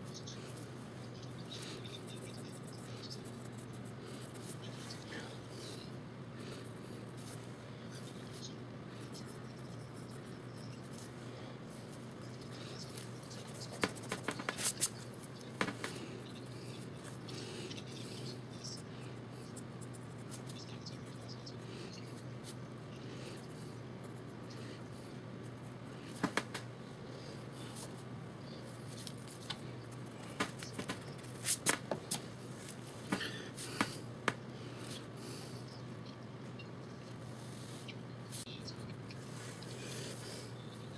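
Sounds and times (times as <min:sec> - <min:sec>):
low hum and hiss: 0:00.0 - 0:40.9.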